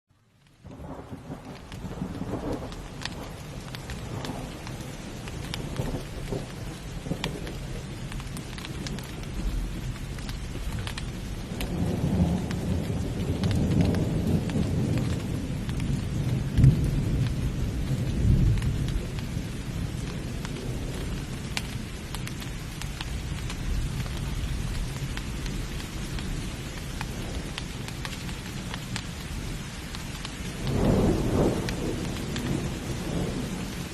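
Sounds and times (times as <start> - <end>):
heavy rain pattering: 0.1 - 33.9
rolling thunder: 0.6 - 28.8, 30.4 - 33.9.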